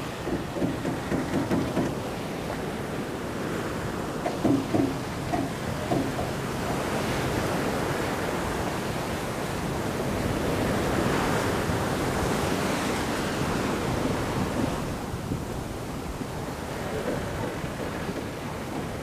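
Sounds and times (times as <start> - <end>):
sea water rushing and splashing: 0.0 - 19.0
wind buffeting microphone: 1.8 - 19.0.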